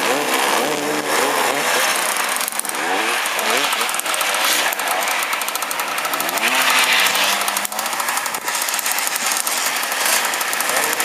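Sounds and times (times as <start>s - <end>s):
motorcycle engine revving: 0.0s - 11.0s
motorcycle engines running: 0.0s - 11.0s.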